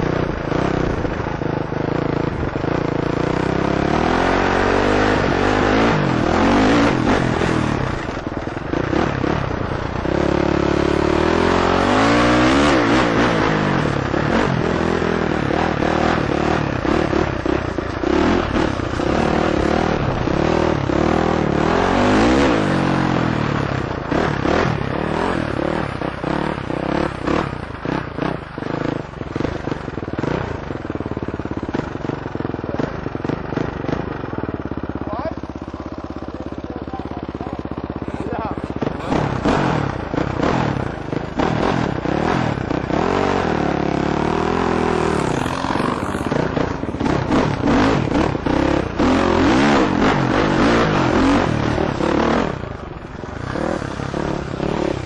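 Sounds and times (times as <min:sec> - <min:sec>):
dirt bike engine revving: 0:00.0 - 0:32.1, 0:32.7 - 0:55.0.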